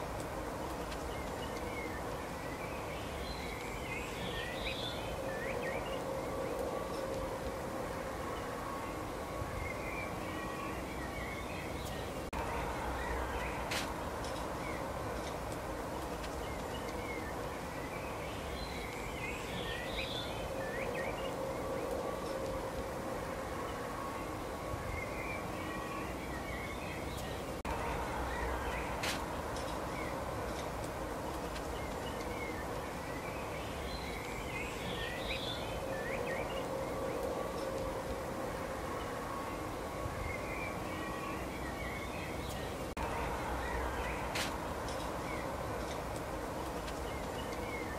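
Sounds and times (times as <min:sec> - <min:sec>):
faint steady hum: 0:00.0 - 0:47.9
outdoor background hiss: 0:00.0 - 0:47.9
small birds chirping: 0:00.0 - 0:47.9
songbirds twittering: 0:00.0 - 0:47.9.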